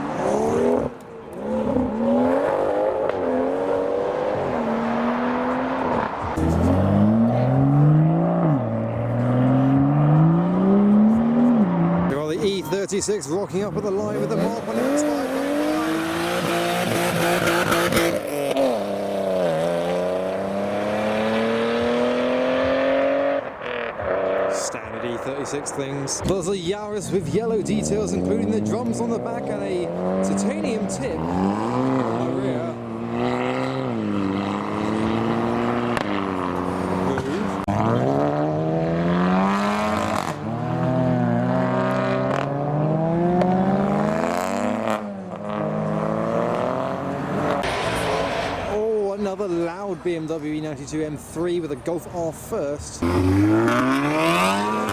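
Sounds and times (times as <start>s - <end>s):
car engine revving: 0.0s - 12.3s, 13.6s - 49.5s, 53.0s - 54.9s.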